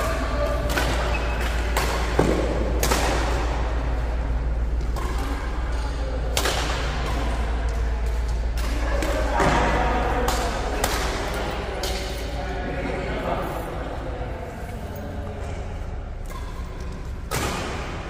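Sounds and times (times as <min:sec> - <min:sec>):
rackets striking shuttlecock: 0:00.0 - 0:12.4, 0:15.4 - 0:18.0
steady low hum: 0:00.0 - 0:18.0.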